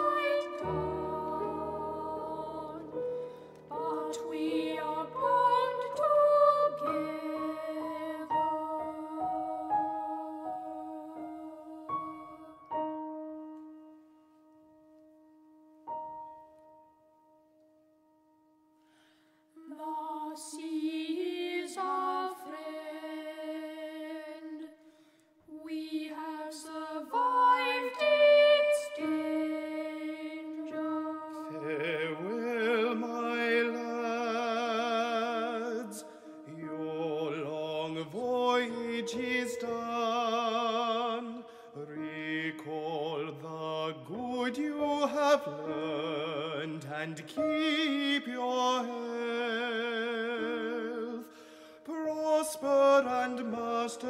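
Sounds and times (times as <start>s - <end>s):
piano: 0.0s - 54.0s.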